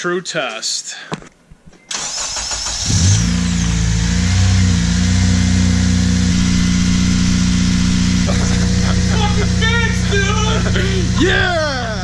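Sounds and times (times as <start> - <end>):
car engine starting and idling: 1.9 - 12.0.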